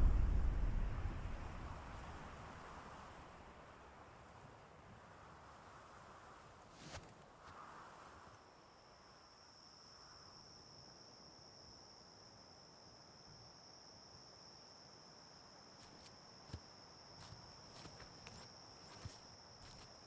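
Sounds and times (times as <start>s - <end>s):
insect droning: 0.0s - 20.0s.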